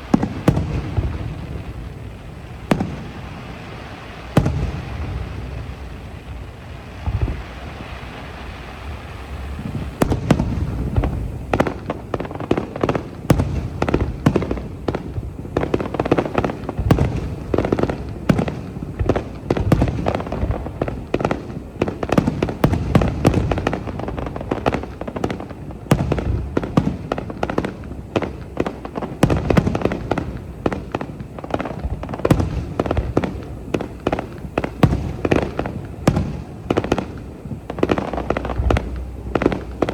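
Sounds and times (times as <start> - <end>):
fireworks booms and bangs: 0.0 - 39.9
fireworks hissing crackle: 0.0 - 39.9.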